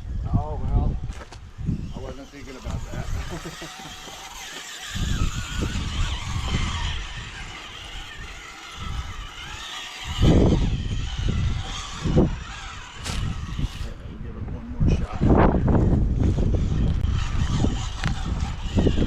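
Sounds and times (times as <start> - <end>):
wind buffeting microphone: 0.0 - 19.0
engine revving: 1.7 - 14.2, 14.9 - 19.0.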